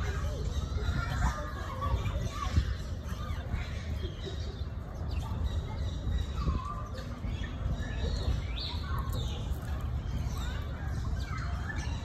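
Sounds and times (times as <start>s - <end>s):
bird calls and chirps: 0.0s - 12.0s.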